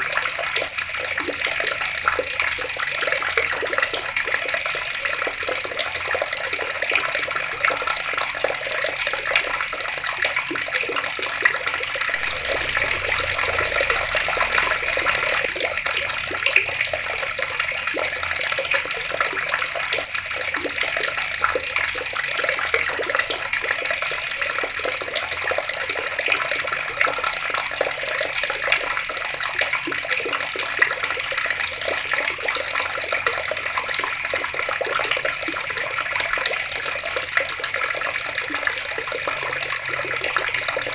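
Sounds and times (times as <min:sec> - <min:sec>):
water running from tap: 0:00.0 - 0:40.9.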